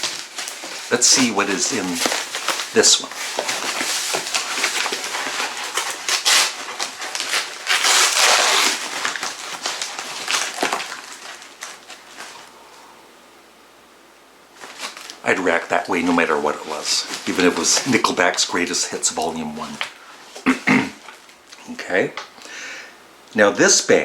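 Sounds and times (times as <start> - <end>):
cardboard package ripping: 0.0 - 12.5, 14.6 - 21.4.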